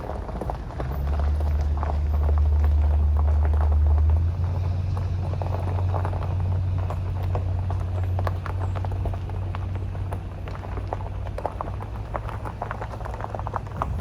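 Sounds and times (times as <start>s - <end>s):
low road rumble inside car: 0.0s - 14.0s
small clicks and crackles: 0.0s - 14.0s.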